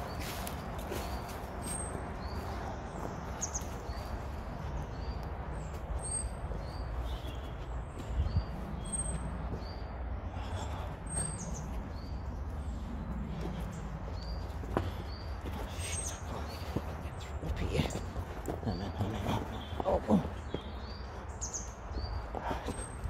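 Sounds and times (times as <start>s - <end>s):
footsteps on woodland floor: 0.0s - 9.9s, 10.6s - 23.0s
songbird chirping: 0.0s - 23.0s.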